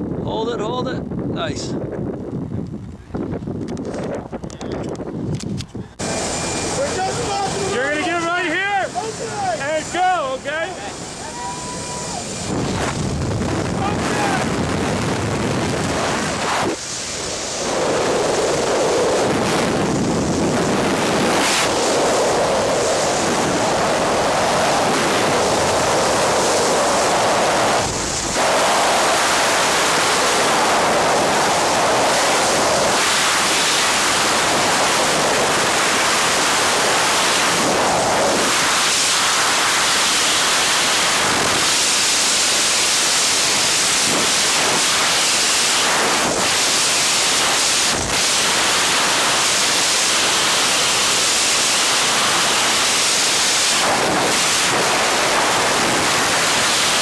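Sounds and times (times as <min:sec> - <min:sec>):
freefall wind on microphone: 0:00.0 - 0:57.0.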